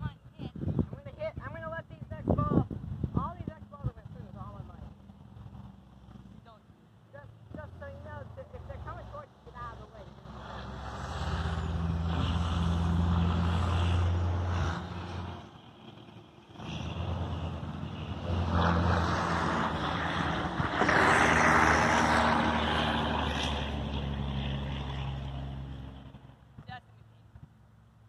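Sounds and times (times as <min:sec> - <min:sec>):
vehicle engine hum: 0:00.0 - 0:28.0
passing vehicles tyre noise: 0:00.6 - 0:26.7.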